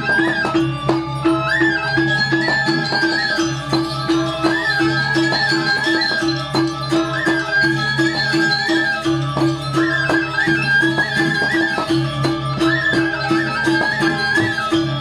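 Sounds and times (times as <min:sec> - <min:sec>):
gong-like beat: 0:00.0 - 0:15.0
high wavering melody: 0:00.0 - 0:15.0.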